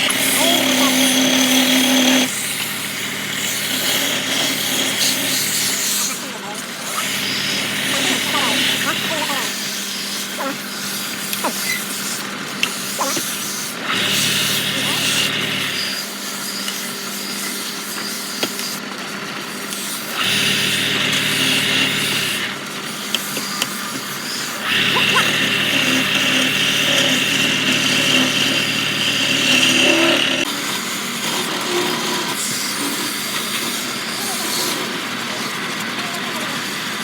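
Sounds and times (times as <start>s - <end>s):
turning tool cutting wood: 0.0s - 37.0s
wood lathe running: 0.0s - 37.0s.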